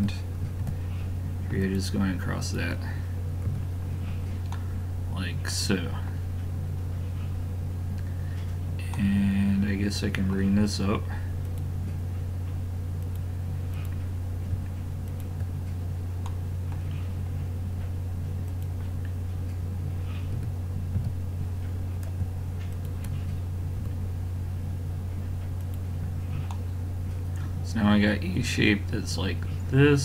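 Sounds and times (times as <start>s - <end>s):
low background hum: 0.0s - 30.0s.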